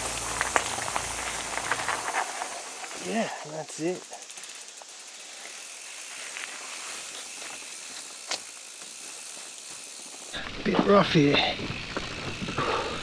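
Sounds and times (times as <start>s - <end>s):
bicycle rolling over gravel: 0.0s - 13.0s.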